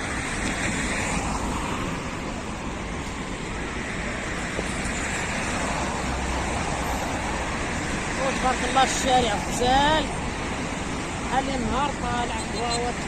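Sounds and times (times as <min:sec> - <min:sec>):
road traffic: 0:00.0 - 0:13.0
sea surf: 0:00.0 - 0:13.0.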